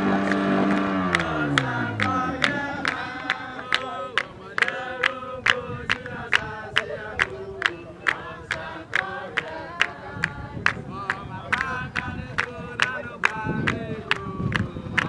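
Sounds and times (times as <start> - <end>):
voices singing together: 0.0 - 15.0.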